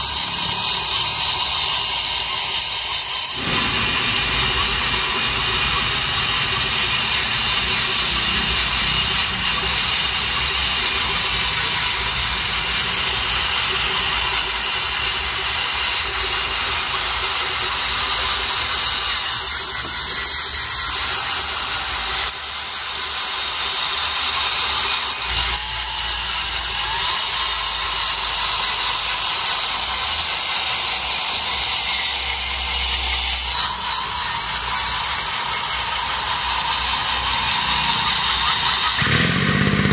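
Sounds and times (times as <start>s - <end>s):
hydraulic whine and hiss: 0.0s - 39.9s.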